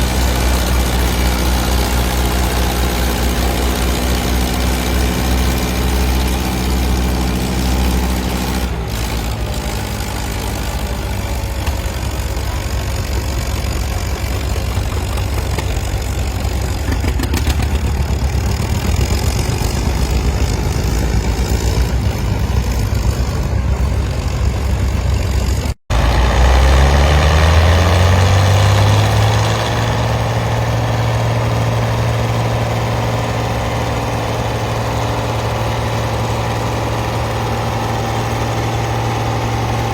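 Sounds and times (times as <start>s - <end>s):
engine speeding up: 0.0s - 39.9s
tractor engine running: 0.0s - 39.9s.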